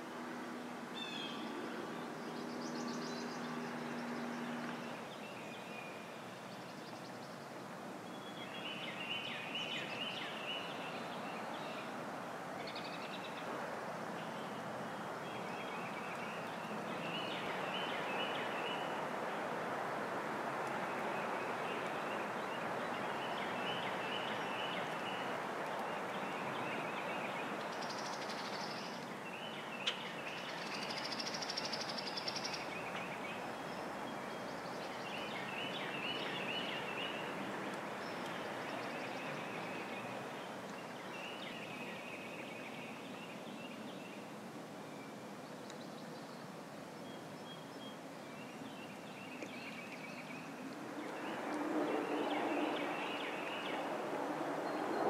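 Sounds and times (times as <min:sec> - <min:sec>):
outdoor background hiss: 0:00.0 - 0:55.0.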